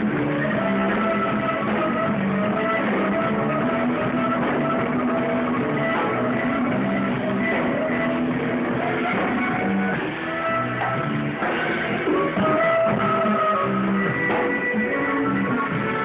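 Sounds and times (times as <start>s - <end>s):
drums and hand percussion: 0.0s - 16.0s
electric guitar: 0.0s - 16.0s
saxophone: 0.0s - 16.0s.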